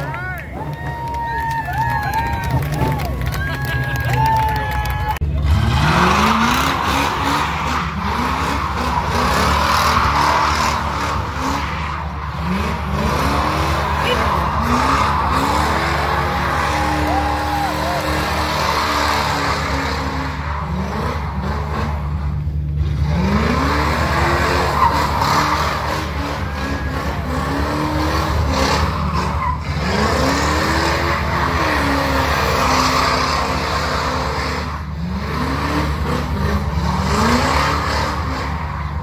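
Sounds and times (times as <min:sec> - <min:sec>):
tires squealing: 0:00.0 - 0:39.0
car engine revving high: 0:05.4 - 0:39.0.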